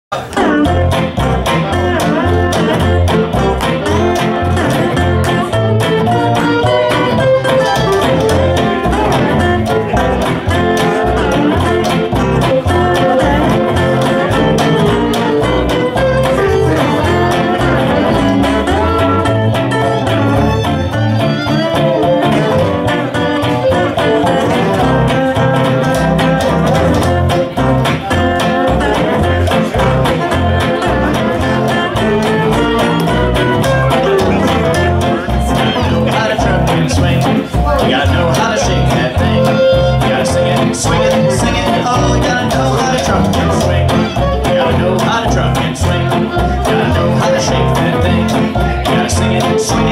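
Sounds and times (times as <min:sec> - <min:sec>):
swing band playing: 0:00.1 - 0:49.9.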